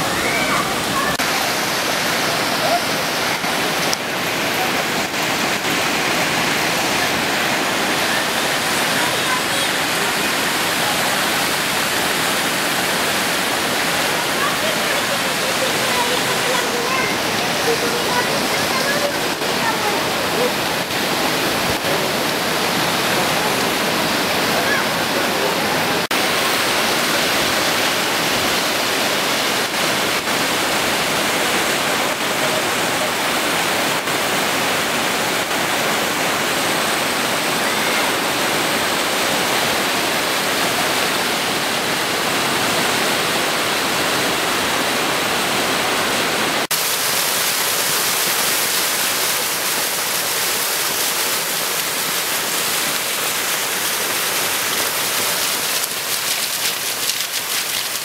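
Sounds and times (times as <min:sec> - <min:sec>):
floodwater rushing down street: 0:00.0 - 0:58.0.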